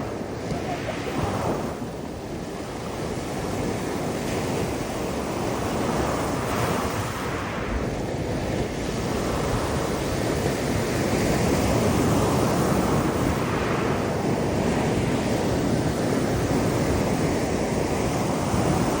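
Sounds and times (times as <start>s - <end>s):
waves washing against rocks: 0.0s - 19.0s
wind buffeting microphone: 0.0s - 19.0s.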